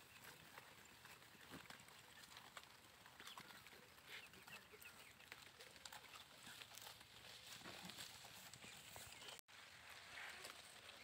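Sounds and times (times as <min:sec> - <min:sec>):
goats cropping grass: 0:00.0 - 0:11.0.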